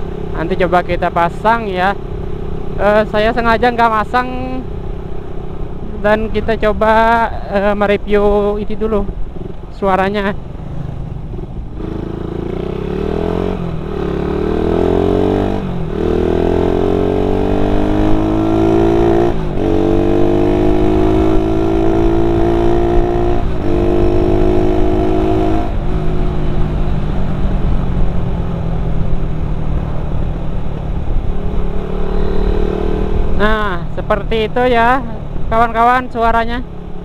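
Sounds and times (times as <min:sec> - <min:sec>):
motorcycle engine accelerating: 0:00.0 - 0:07.6, 0:08.3 - 0:37.0.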